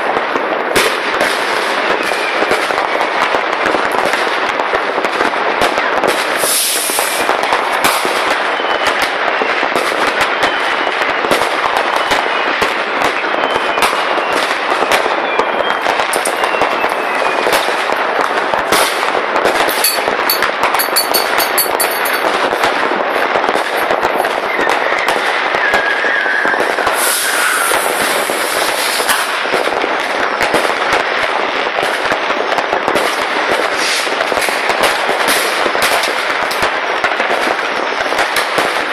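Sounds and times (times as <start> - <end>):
fireworks crackling: 0.0 - 38.9
falling firework whistle: 0.8 - 2.8, 6.2 - 31.0, 31.9 - 36.2.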